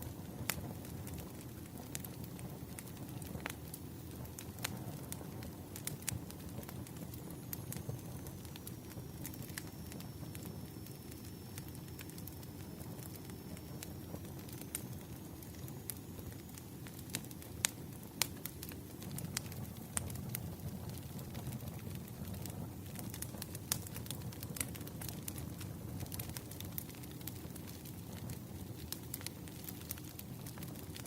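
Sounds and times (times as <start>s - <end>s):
campfire crackling: 0.0s - 31.0s
wood fire pops: 0.0s - 31.0s.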